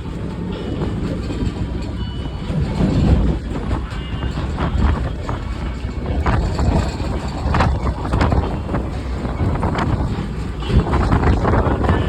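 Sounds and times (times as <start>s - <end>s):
train car rumbling on track: 0.0s - 12.0s
wind on microphone: 0.0s - 12.0s.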